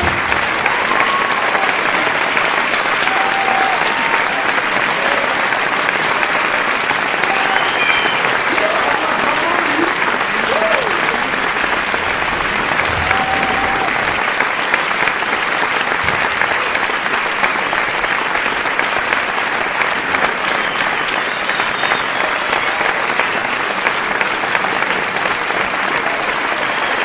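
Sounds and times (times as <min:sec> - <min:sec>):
crowd applause: 0:00.0 - 0:27.0.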